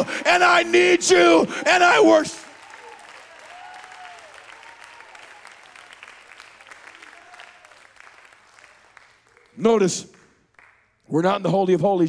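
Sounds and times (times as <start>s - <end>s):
congregation applauding: 1.2s - 11.0s.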